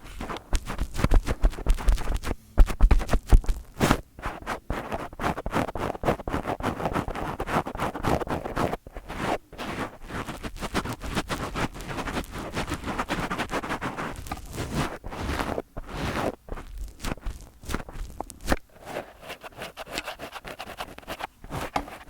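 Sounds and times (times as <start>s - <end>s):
fingertips scratching on microphone: 0.0s - 22.0s.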